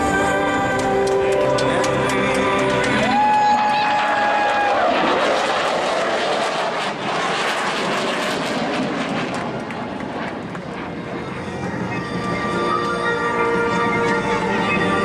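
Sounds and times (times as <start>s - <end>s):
airplane engine passing by: 0.0s - 15.0s.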